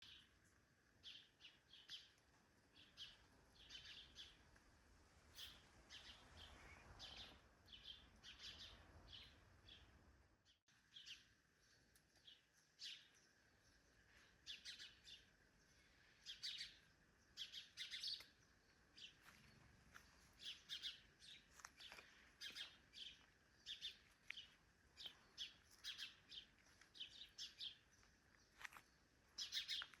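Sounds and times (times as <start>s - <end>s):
birds chirping: 5.3s - 30.0s.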